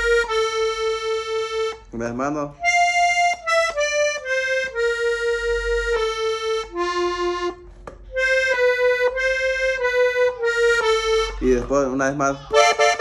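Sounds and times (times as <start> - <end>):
button accordion melody: 0.0 - 11.7, 12.5 - 13.0.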